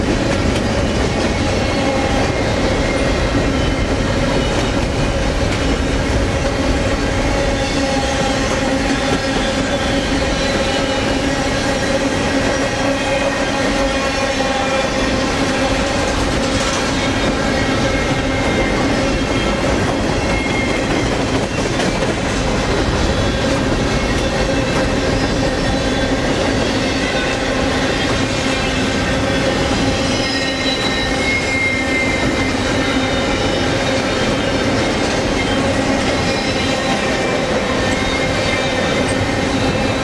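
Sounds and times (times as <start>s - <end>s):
train wheels rumbling on rail: 0.0s - 40.0s
high-pitched wheel squeals: 0.9s - 22.0s, 23.0s - 40.0s.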